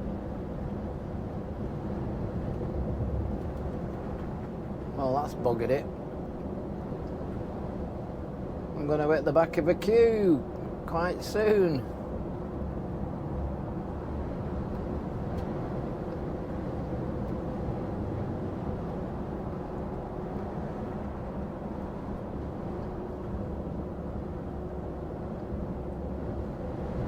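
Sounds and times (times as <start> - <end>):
truck engine drone and road noise: 0.0 - 27.0.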